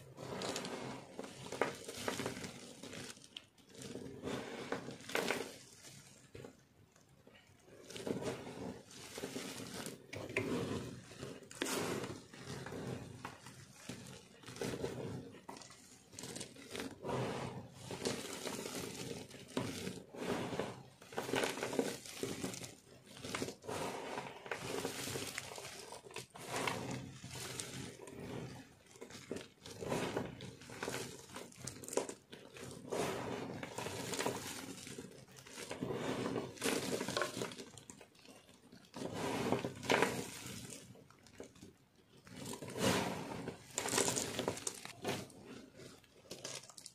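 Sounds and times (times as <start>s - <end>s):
dry soap pieces crumbling: 0.3s - 6.6s, 7.7s - 20.4s, 21.0s - 46.9s.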